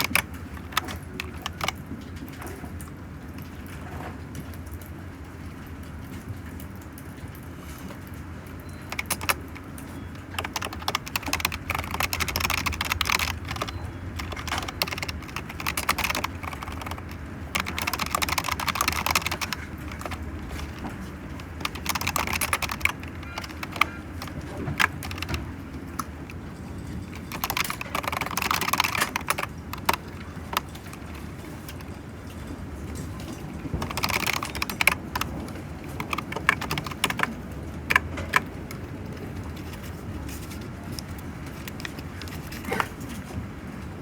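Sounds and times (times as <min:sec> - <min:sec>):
typing on a computer keyboard: 0:00.0 - 0:05.0, 0:06.8 - 0:43.4.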